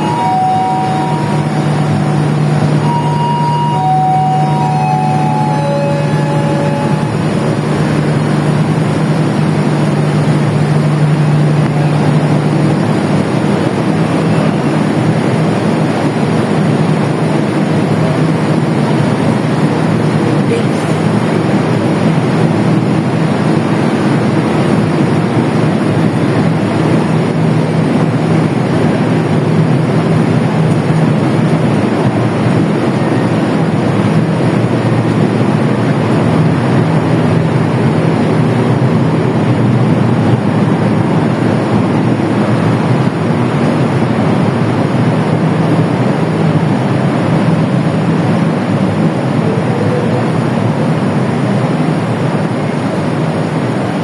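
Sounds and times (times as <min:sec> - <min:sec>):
low locomotive engine hum: 0:00.0 - 0:54.0
train wheels rumbling on rail: 0:00.0 - 0:54.0.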